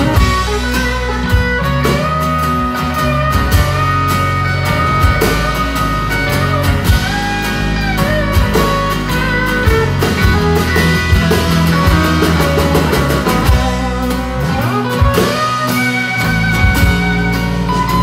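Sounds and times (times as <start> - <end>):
drums: 0.0 - 18.0
sliding held melody notes: 0.0 - 18.0
strummed acoustic guitar: 0.0 - 18.0.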